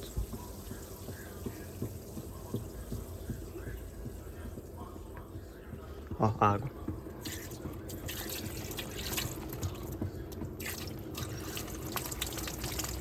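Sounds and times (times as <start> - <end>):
washing machine water splashing: 0.0 - 4.7, 6.9 - 13.0.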